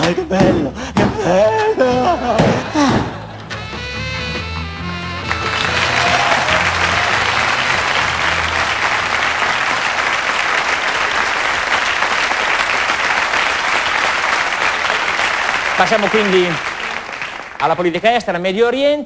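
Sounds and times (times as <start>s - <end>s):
audience applauding: 2.7s - 18.0s.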